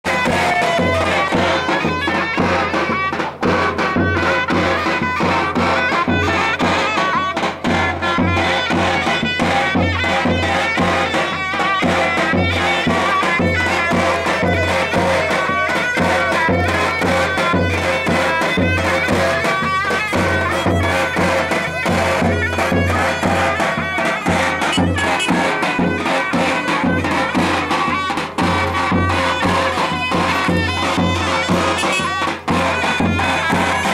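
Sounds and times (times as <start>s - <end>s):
bass drum beat: 0.0s - 33.9s
wind instrument folk melody: 0.0s - 33.9s.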